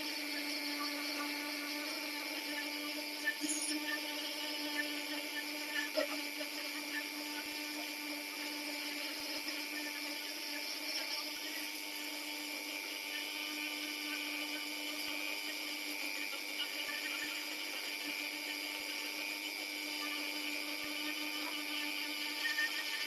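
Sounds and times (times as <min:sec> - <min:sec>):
rotary tool motor: 0:00.0 - 0:23.0.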